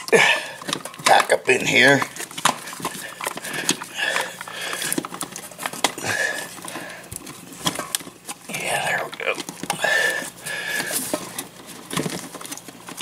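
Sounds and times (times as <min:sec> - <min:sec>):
outlet and wires clicking and scraping: 0:00.0 - 0:13.0.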